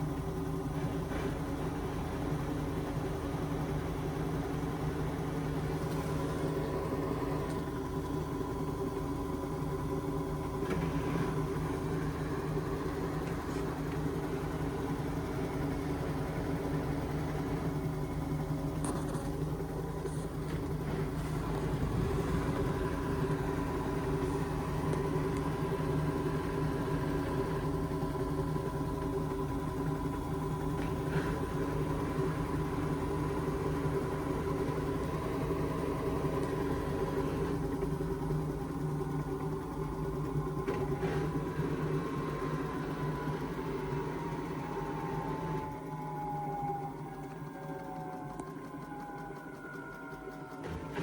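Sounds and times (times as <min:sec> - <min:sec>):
washing machine spinning: 0:00.0 - 0:51.0.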